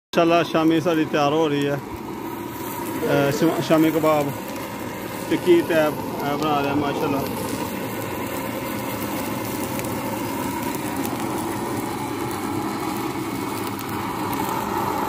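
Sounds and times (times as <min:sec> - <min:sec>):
gas burner flame rumble: 0:00.2 - 0:15.0
patties sizzling in oil: 0:00.2 - 0:15.0.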